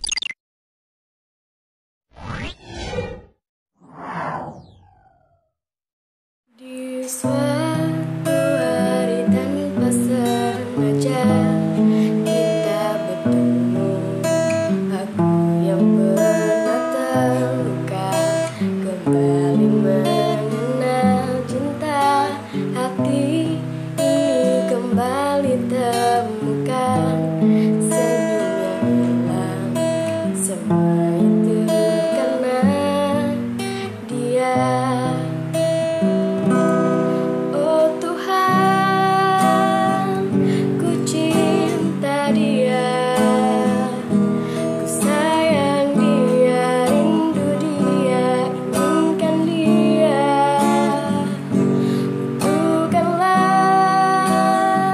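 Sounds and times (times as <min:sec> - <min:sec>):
woman singing: 0:06.6 - 0:35.8, 0:37.1 - 0:54.9
strummed acoustic guitar: 0:07.1 - 0:54.9.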